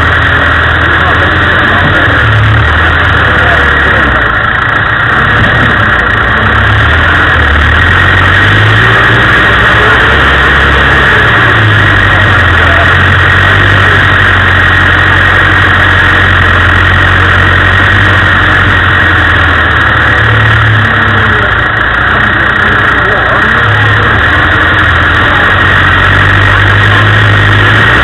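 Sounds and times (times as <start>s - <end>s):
engine running at low revs: 0.0s - 28.0s.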